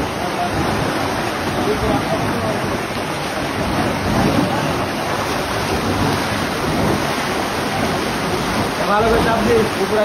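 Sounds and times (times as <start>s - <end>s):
water rushing through sluice gate: 0.0s - 10.0s.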